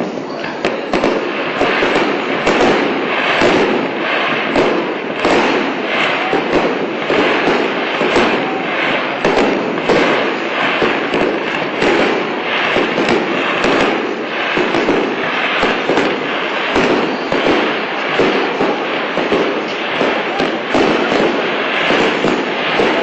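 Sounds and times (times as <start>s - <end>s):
fireworks bursting: 0.0s - 23.0s
fireworks crackle: 0.0s - 23.0s.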